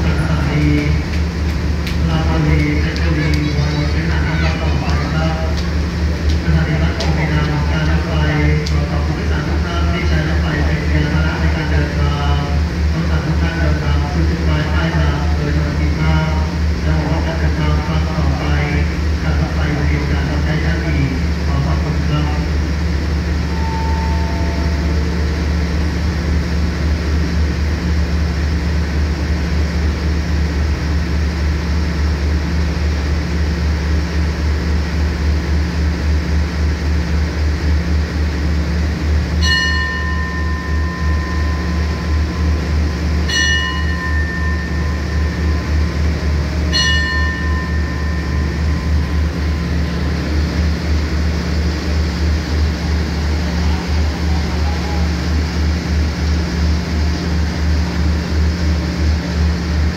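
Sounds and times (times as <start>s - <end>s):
station bell ringing: 0.0s - 30.5s, 37.1s - 59.9s
diesel train humming: 0.0s - 59.9s.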